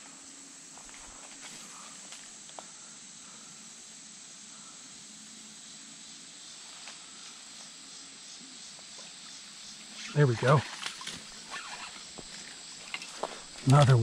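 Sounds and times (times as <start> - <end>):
insects hissing: 0.0 - 14.0.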